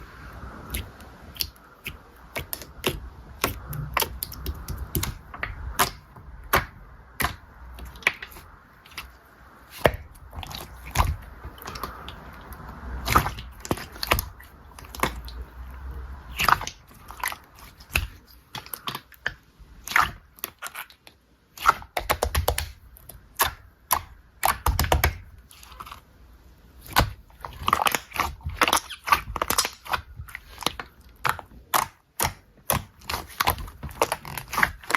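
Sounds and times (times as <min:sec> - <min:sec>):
slime squishing with wet clicks: 0:00.6 - 0:34.9.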